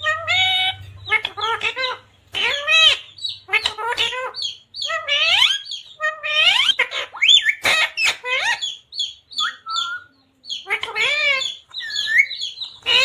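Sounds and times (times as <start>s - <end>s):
parrot calling and chattering: 0.0s - 13.0s.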